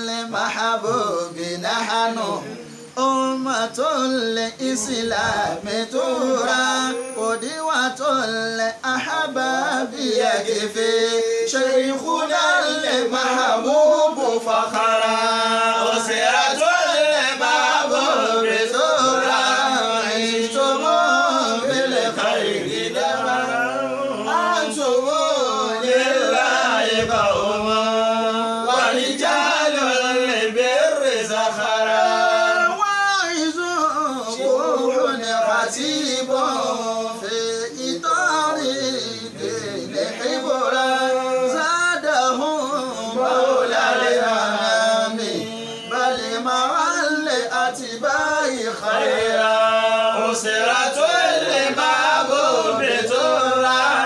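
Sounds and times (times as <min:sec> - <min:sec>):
man chanting: 0:00.0 - 0:54.0.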